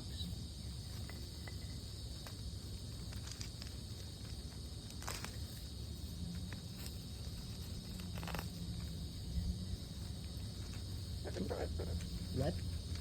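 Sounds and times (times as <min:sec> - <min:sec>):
insects chirring: 0:00.0 - 0:13.0
low outdoor rumble: 0:00.0 - 0:13.0.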